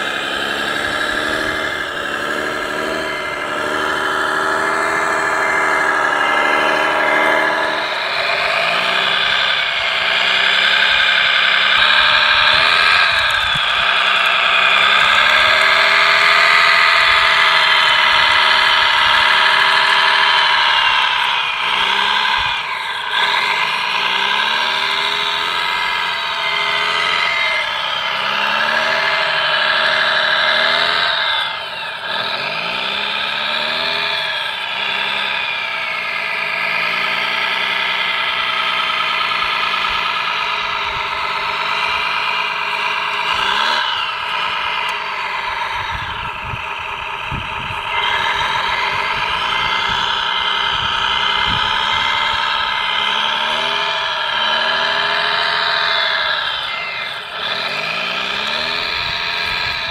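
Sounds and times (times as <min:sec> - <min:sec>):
model bulldozer drive whine: 0:00.0 - 0:59.9.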